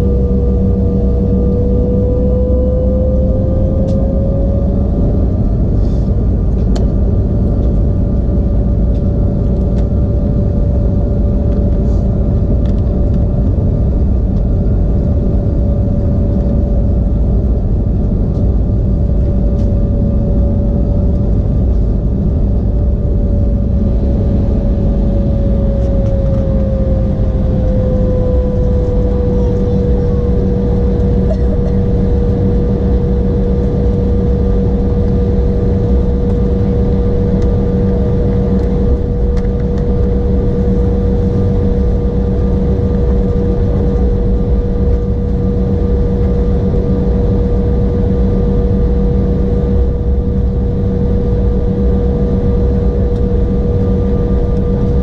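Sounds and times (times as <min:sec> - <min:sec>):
jet engine whine: 0:00.0 - 0:55.0
low engine rumble: 0:00.0 - 0:55.0.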